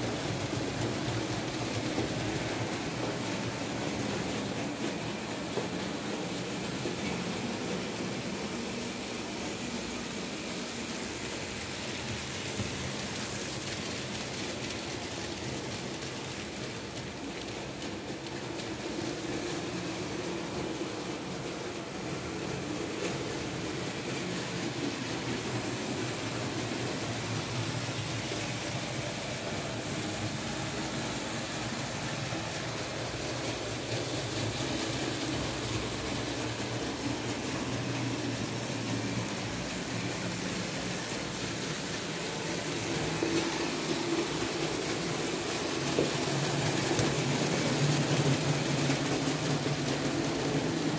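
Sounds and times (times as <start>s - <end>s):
model train motor humming: 0.0s - 50.9s
steady hiss: 0.0s - 50.9s
wheels rolling on metal track: 0.0s - 50.9s.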